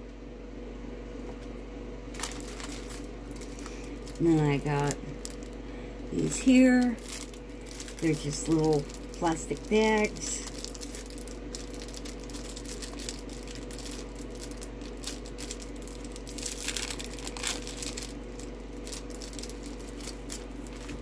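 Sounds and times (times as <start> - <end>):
low hum: 0.0 - 21.0
plastic bags crinkling: 2.1 - 21.0.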